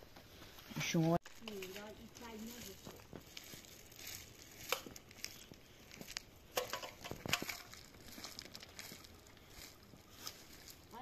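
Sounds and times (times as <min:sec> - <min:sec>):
gravel scraping: 0:00.7 - 0:11.0.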